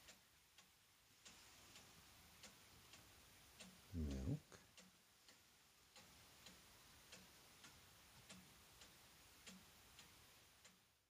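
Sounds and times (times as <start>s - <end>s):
faint regular ticking: 0.0s - 11.0s.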